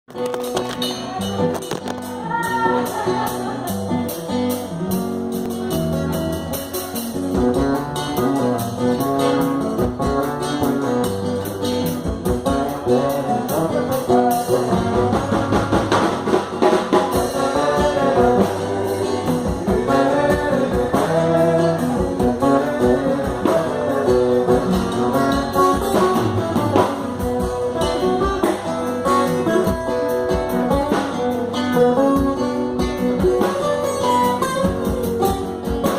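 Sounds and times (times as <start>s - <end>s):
guitar: 0.0s - 35.9s
live band playing: 0.0s - 35.9s
percussion steady beat: 0.1s - 35.9s.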